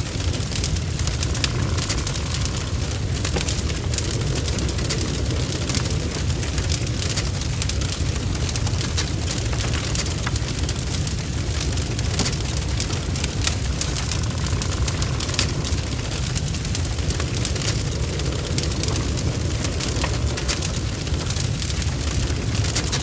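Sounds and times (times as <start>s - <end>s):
fire crackling and spitting: 0.0s - 23.0s
low rumble of flames: 0.0s - 23.0s.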